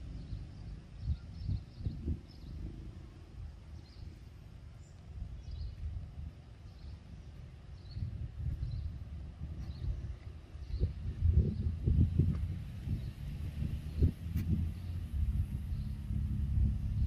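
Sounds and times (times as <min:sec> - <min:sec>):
uneven low rumble: 0:00.0 - 0:17.0.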